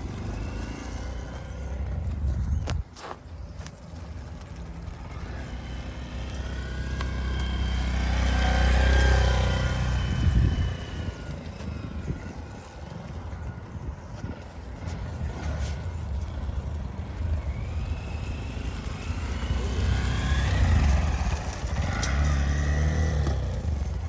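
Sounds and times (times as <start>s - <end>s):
vehicle driving past: 0.0s - 2.5s, 3.9s - 24.0s.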